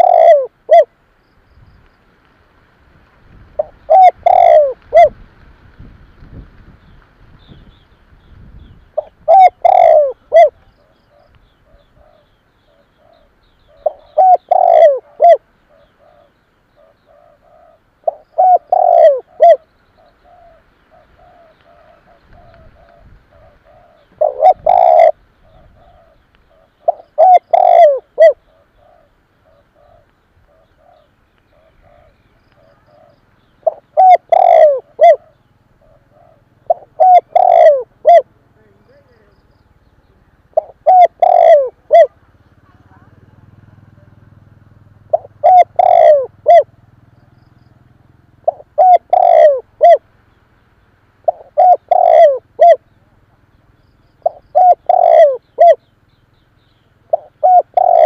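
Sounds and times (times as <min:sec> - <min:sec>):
dove cooing: 0:00.0 - 0:00.9, 0:03.6 - 0:05.2, 0:08.6 - 0:39.4, 0:40.1 - 0:50.1, 0:51.2 - 0:58.0.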